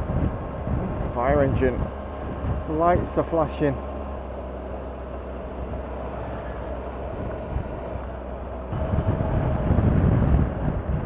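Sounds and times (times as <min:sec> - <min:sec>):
wind rushing over microphone: 0:00.0 - 0:04.3, 0:05.1 - 0:11.0.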